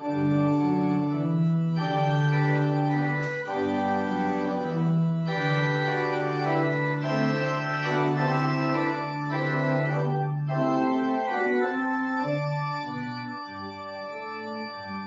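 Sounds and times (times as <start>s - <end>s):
organ playing chords: 0.0s - 15.0s.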